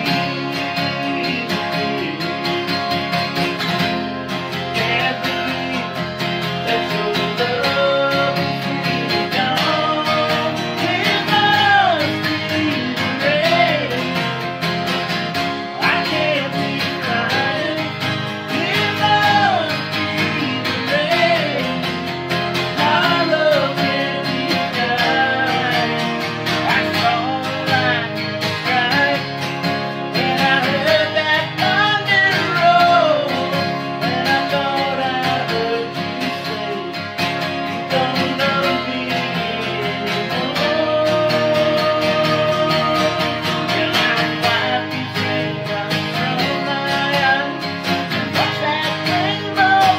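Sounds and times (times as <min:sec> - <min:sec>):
acoustic guitars strumming: 0:00.0 - 0:49.9
man singing country song: 0:00.0 - 0:49.9.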